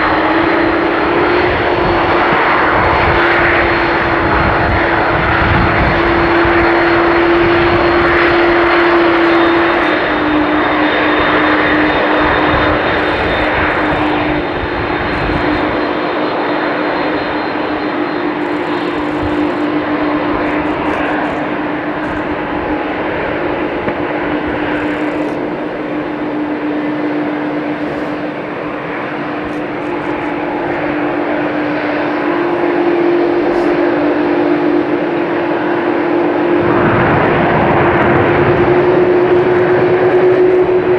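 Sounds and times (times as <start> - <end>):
jet engines running: 0.0 - 40.9
steady hum tone: 0.0 - 40.9.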